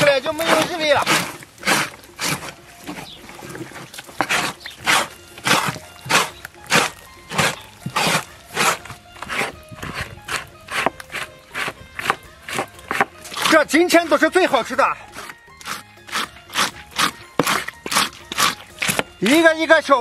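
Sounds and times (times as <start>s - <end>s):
blade scraping tripe: 0.0s - 19.4s
faint background music: 0.0s - 20.0s.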